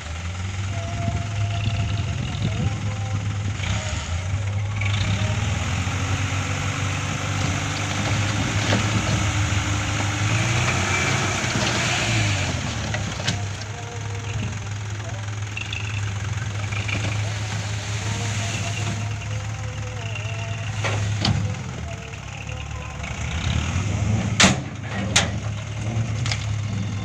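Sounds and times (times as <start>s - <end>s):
diesel truck engine revving: 0.0s - 27.0s.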